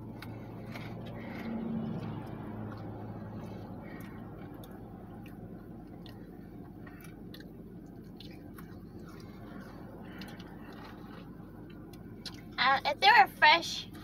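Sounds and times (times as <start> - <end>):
wet mouth clicks chewing: 0.0 - 12.5
low steady hum: 0.0 - 14.0.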